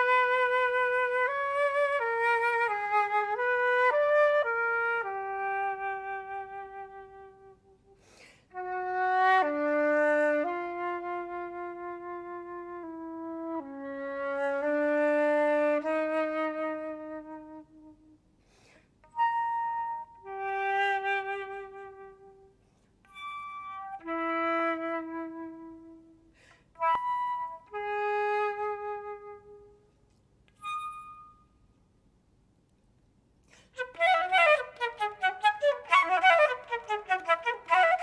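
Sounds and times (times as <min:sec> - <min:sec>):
solo flute melody: 0:00.0 - 0:18.2, 0:19.0 - 0:31.8, 0:33.5 - 0:38.0.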